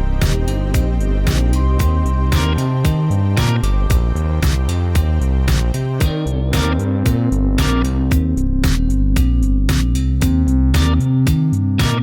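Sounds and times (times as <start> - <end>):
upbeat instrumental guitar music: 0.0 - 12.0.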